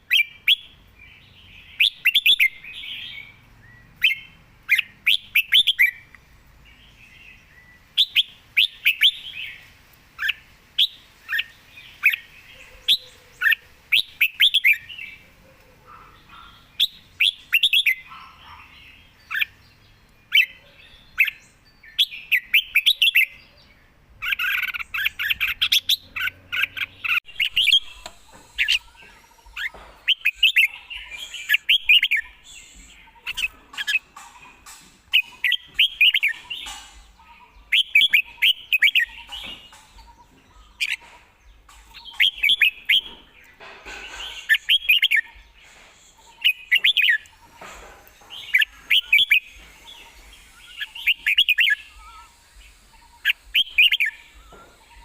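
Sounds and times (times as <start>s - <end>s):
bird singing whistled notes: 0.1s - 6.1s, 7.0s - 15.2s, 16.1s - 18.5s, 19.2s - 34.0s, 35.1s - 41.0s, 41.6s - 55.0s.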